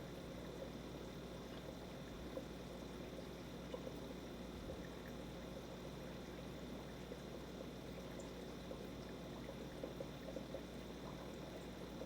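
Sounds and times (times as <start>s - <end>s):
aquarium water trickling: 0.0s - 12.0s.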